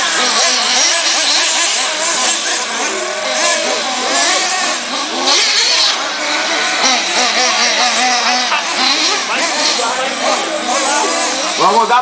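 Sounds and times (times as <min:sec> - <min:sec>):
model car engines whining: 0:00.0 - 0:12.0.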